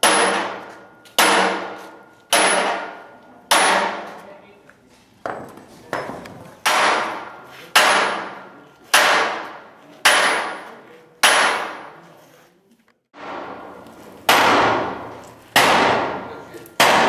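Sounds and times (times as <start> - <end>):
sledgehammer striking steel tool: 0.0 - 4.2, 6.0 - 12.0, 13.2 - 17.0.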